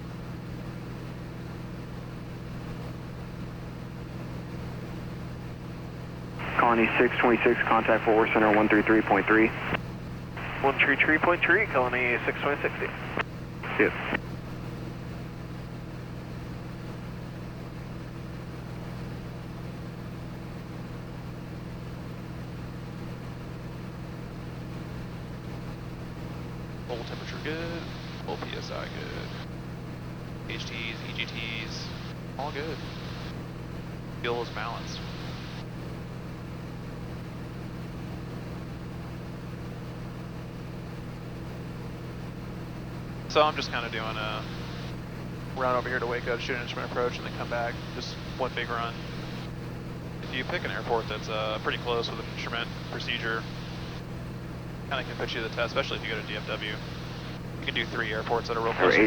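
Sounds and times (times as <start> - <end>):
aircraft engine and propeller droning: 0.1 - 59.0.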